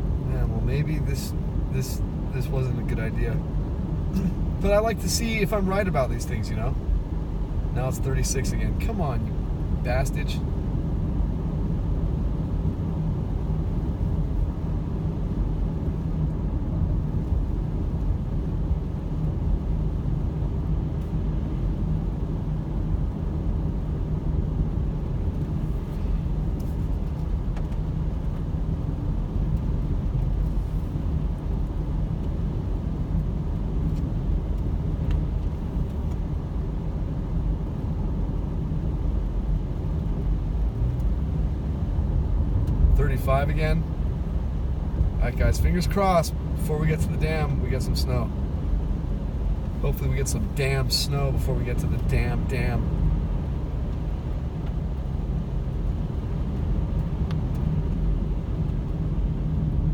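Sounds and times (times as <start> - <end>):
car road noise on wet road: 0.0 - 59.9.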